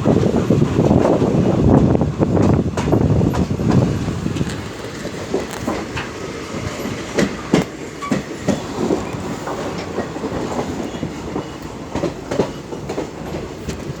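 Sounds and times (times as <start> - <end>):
train rumbling on track: 0.0 - 14.0
wheels clacking over rails: 0.0 - 14.0.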